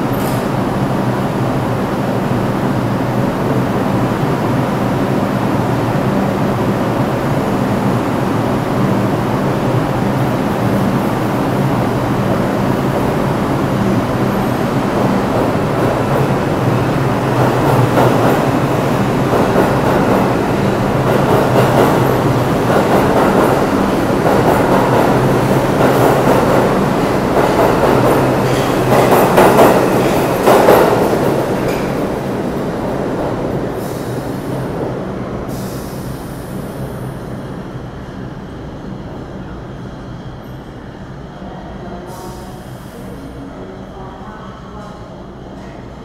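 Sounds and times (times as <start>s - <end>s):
subway train wheels rumbling on rail: 0.0s - 46.0s.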